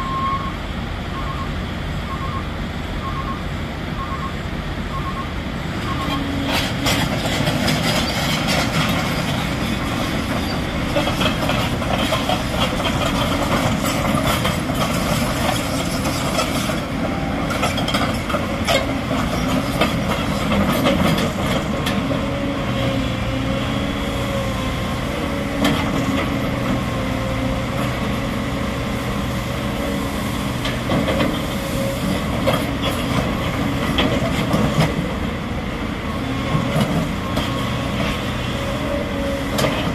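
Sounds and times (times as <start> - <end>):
excavator diesel engine running: 0.0 - 39.9
steel tracks and bucket clanking: 4.0 - 39.9.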